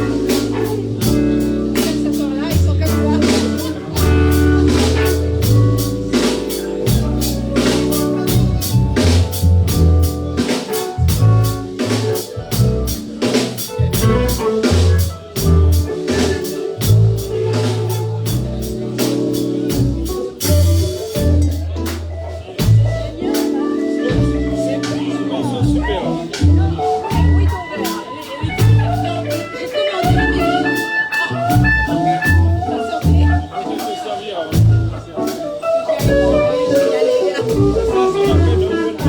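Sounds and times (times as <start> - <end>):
band playing instrumental: 0.0 - 39.0
drum kit beat: 0.0 - 39.0.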